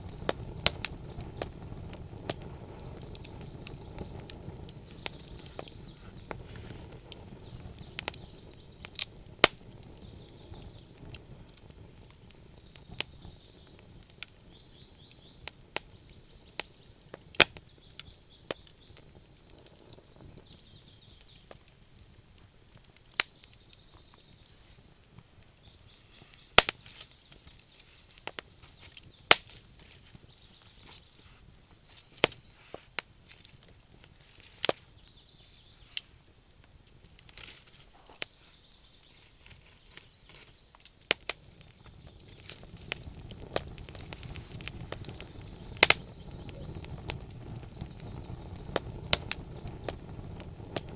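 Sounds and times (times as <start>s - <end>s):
birds chirping: 0.0s - 21.6s, 22.4s - 29.4s, 30.0s - 36.6s, 37.8s - 50.9s
wood fire crackling: 0.0s - 50.9s.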